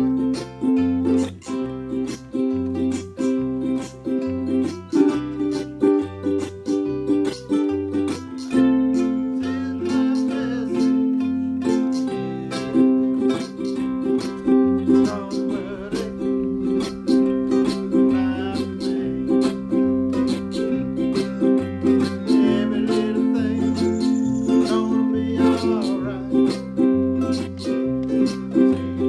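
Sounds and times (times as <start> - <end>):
bass line: 0.0 - 28.9
ukuleles strumming: 0.0 - 29.0.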